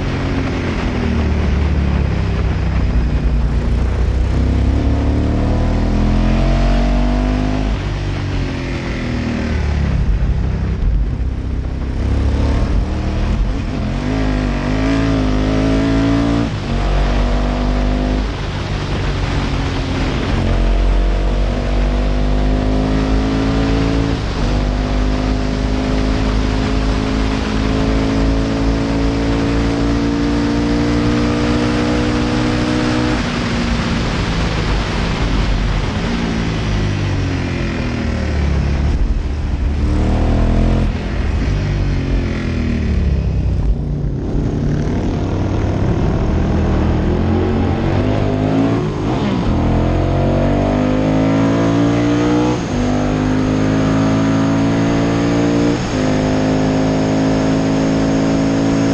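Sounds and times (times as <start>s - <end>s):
wind rush: 0.0s - 58.9s
racing engine revving: 2.8s - 36.7s, 37.6s - 58.9s.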